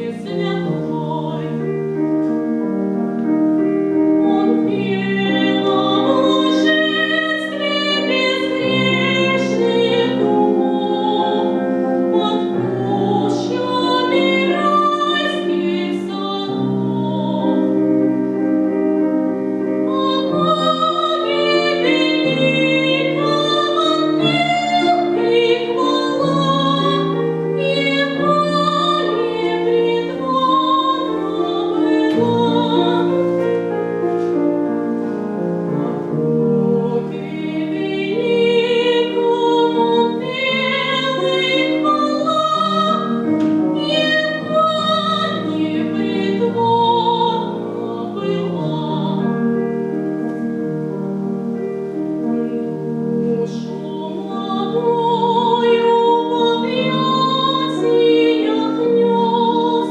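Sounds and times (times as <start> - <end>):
piano: 0.0 - 59.9
woman singing classical: 0.0 - 59.9.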